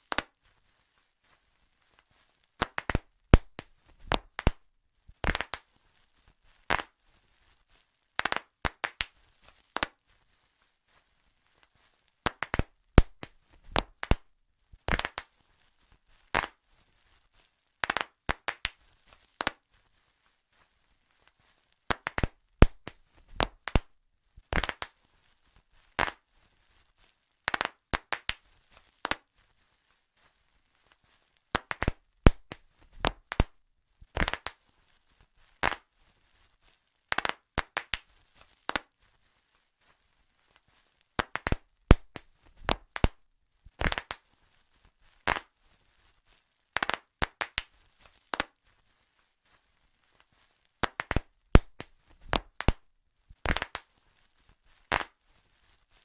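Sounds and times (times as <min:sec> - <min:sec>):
bubble wrap popping: 0:00.0 - 0:56.0.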